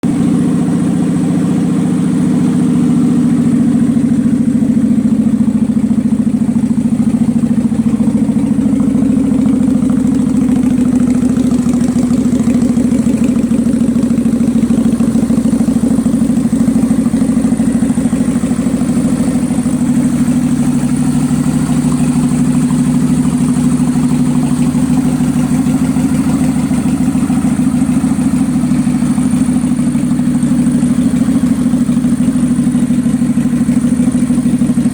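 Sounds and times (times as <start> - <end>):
motorcycle engine idling with misfires: 0.0 - 34.9.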